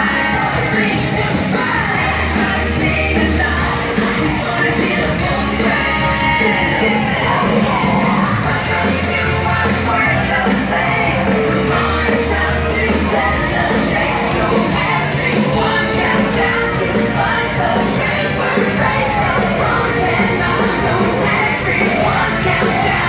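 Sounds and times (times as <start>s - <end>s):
upbeat parade music with singing: 0.0s - 23.0s.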